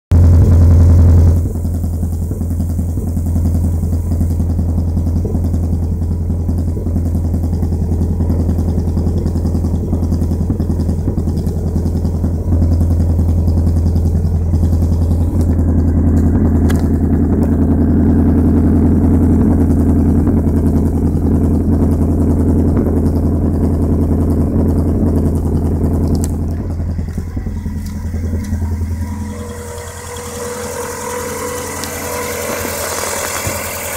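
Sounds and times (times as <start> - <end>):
car engine idling with misfire: 0.1 - 33.9.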